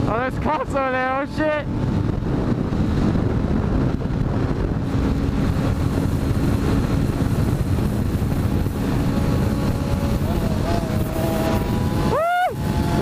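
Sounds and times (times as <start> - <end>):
motorcycle engine drone: 0.0 - 13.0
wind rush on microphone: 0.0 - 13.0.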